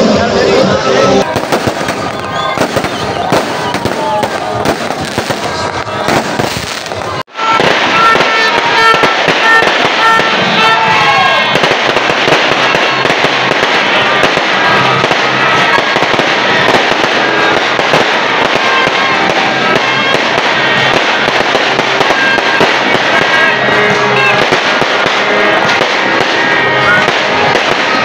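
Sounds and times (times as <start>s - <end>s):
music playing: 0.0s - 28.0s
fireworks crackling and banging: 1.2s - 28.0s.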